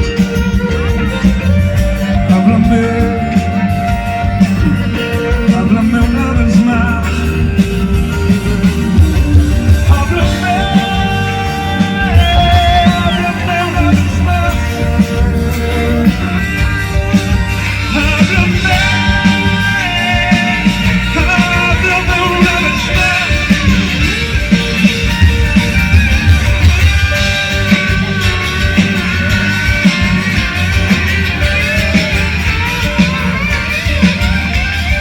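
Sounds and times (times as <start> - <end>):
band playing rock ballad: 0.0 - 35.0.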